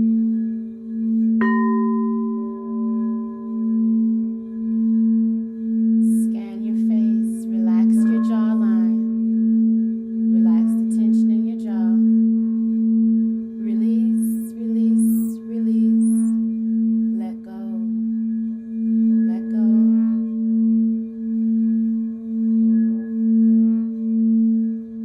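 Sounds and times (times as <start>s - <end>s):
singing bowl low tone: 0.0s - 25.0s.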